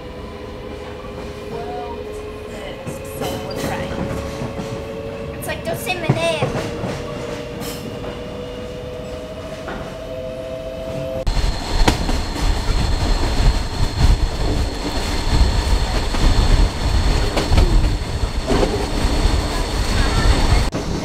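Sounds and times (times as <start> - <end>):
electric train whine: 0.0 - 21.0
train rumbling along track: 0.0 - 21.0.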